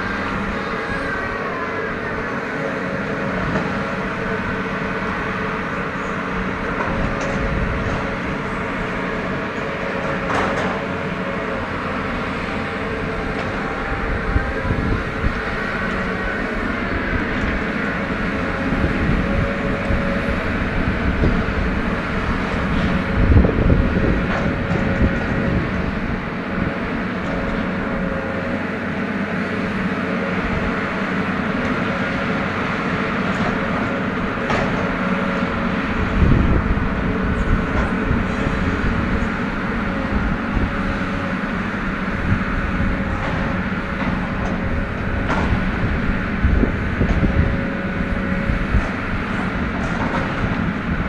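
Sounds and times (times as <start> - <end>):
machine engine and hydraulics whine: 0.0 - 51.0.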